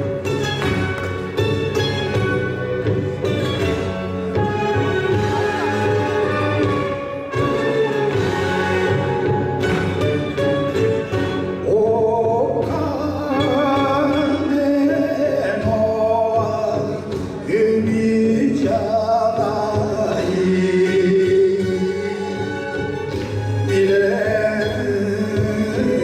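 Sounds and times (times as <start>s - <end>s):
backing music: 0.0s - 26.0s.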